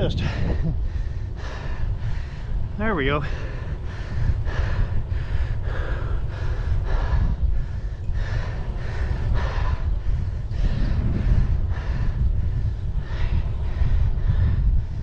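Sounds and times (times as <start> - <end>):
wind rumble on microphone: 0.0 - 15.0
person breathing hard: 0.3 - 15.0.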